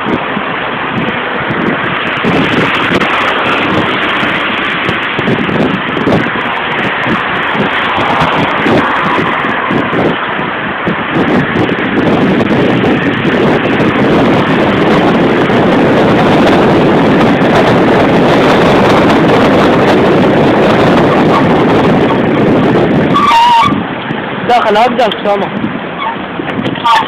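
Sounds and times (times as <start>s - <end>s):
road noise: 0.0s - 27.0s
wind rushing over microphone: 0.0s - 27.0s.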